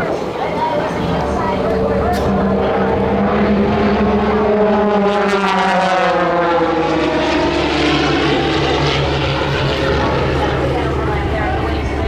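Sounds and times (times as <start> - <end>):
propeller planes flying past: 0.0 - 12.0.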